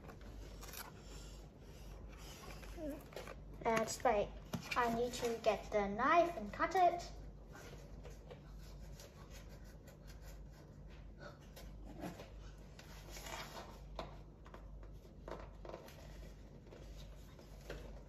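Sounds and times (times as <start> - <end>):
scraping and rustling of handling: 0.0 - 18.0.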